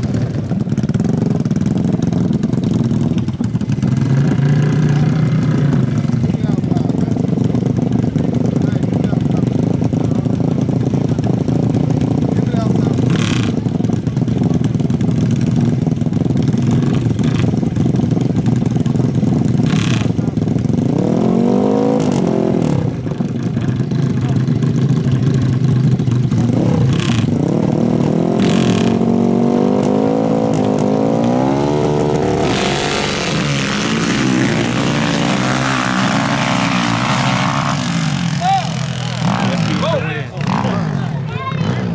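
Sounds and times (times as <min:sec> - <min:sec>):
atv engines revving: 0:00.0 - 0:41.9.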